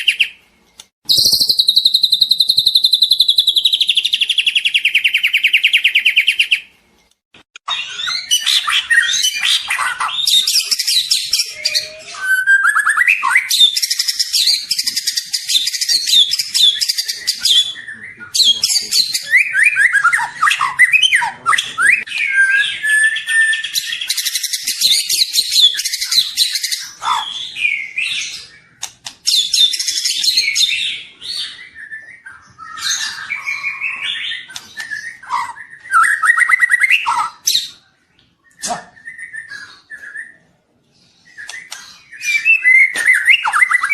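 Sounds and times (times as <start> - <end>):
bird singing varied song: 0.0 - 6.8, 7.6 - 43.9.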